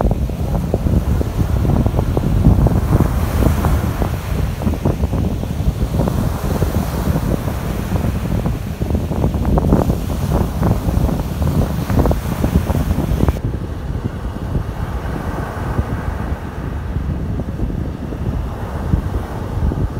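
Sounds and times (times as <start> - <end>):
small waves breaking on shore: 0.0 - 19.9
wind buffeting microphone: 0.0 - 19.9.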